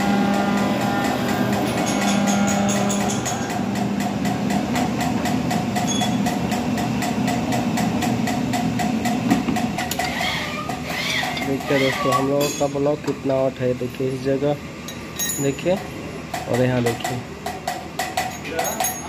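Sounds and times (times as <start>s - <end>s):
machine mechanical hum: 0.0s - 19.0s.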